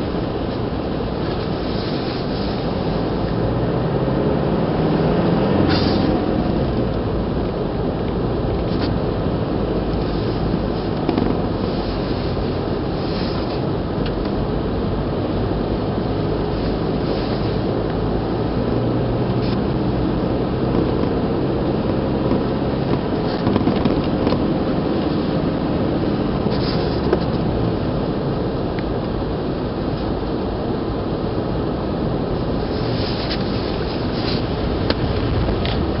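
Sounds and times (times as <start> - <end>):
car engine and tyre drone: 0.0 - 36.0.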